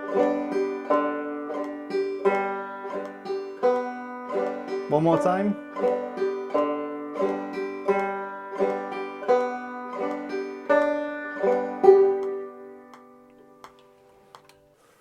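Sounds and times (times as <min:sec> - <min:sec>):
banjo strumming: 0:00.0 - 0:14.0.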